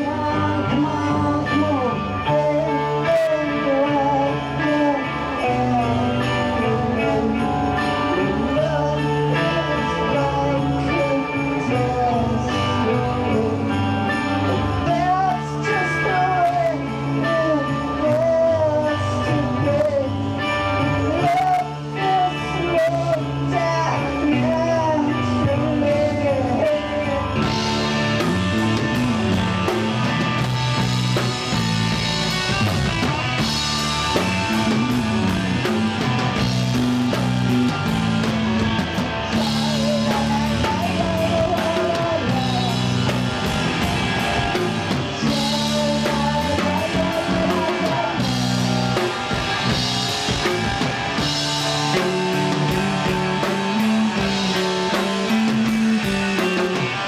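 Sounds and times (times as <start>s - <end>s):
person singing: 0.0s - 57.0s
rock band playing: 0.0s - 57.0s.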